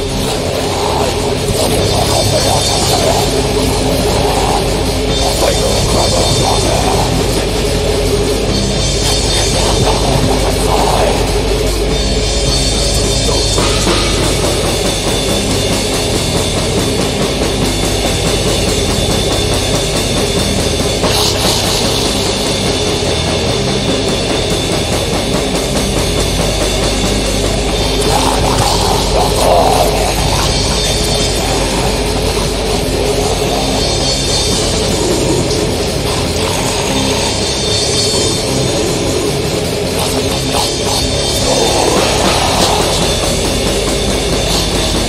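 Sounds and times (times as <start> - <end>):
drum kit: 0.0 - 45.0
heavy metal music: 0.0 - 45.0.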